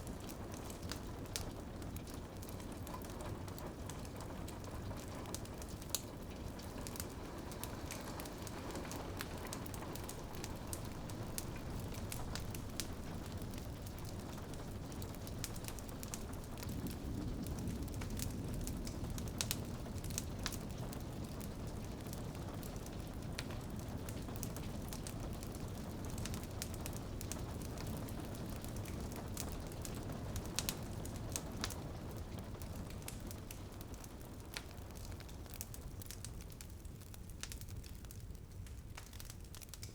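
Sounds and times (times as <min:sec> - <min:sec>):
rain against a window: 0:00.0 - 0:39.9
wood fire crackling: 0:00.0 - 0:39.9.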